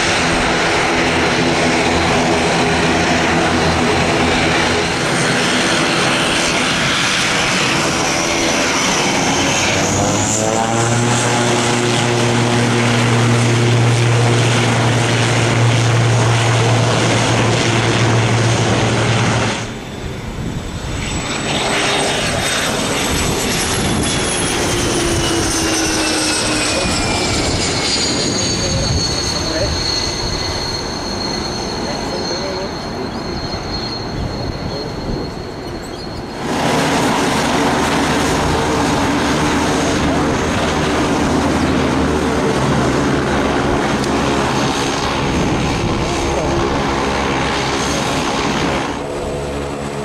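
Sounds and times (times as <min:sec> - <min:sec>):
jet taking off: 0:00.0 - 0:50.0
turboprop propeller drone: 0:00.0 - 0:50.0.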